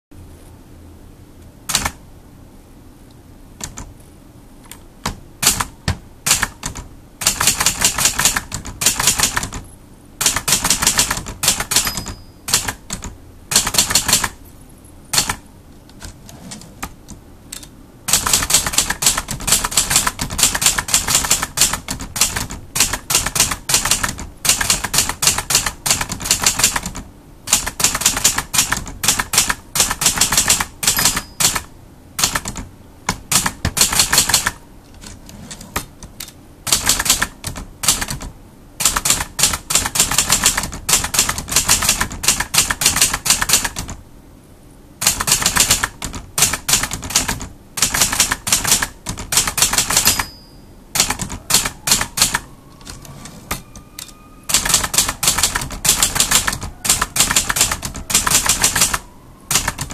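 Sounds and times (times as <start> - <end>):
manual typewriter keys clacking: 1.7 - 2.0, 3.6 - 3.9, 4.7 - 14.4, 15.1 - 44.0, 45.0 - 50.4, 51.0 - 59.9.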